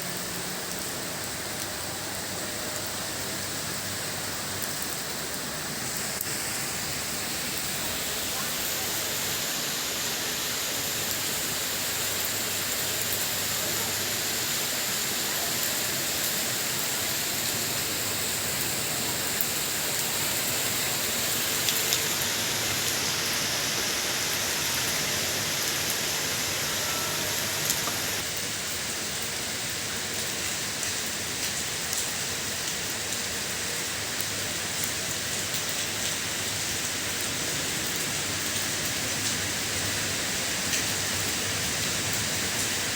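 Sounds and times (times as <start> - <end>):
raindrops ticking on surfaces: 0.0 - 42.9
steady rain hiss: 0.0 - 42.9.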